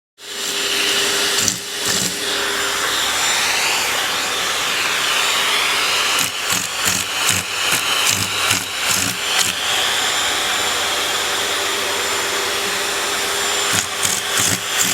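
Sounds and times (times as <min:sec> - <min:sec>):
vacuum cleaner running: 0:00.2 - 0:14.9.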